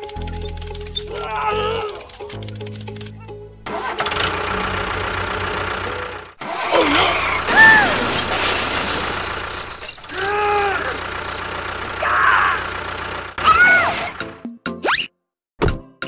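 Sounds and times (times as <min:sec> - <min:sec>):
tractor engine running: 0:00.0 - 0:14.4.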